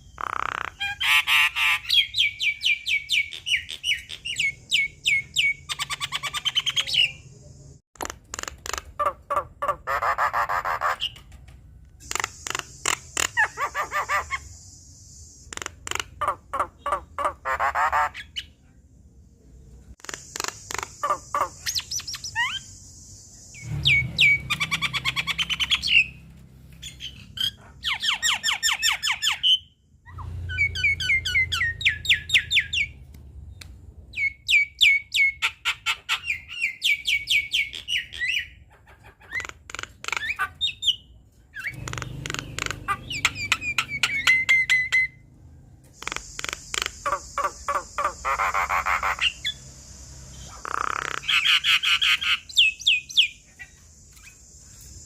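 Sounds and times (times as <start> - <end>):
myna bird singing: 0.0 - 11.4, 12.0 - 18.6, 19.9 - 55.0.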